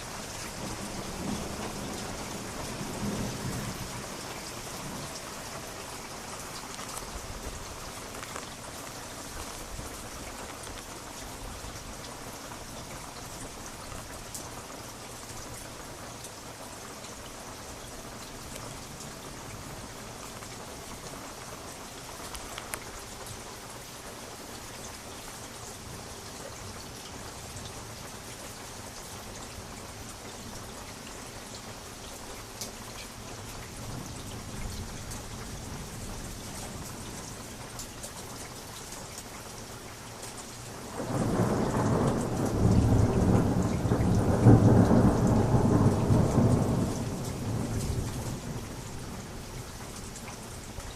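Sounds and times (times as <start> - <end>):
heavy rain pattering: 0.0 - 50.9.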